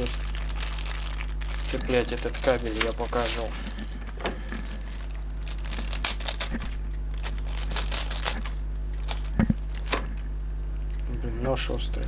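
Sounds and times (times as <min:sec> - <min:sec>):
plastic packaging crinkling and tearing: 0:00.0 - 0:10.0
steady low hum: 0:00.0 - 0:12.0.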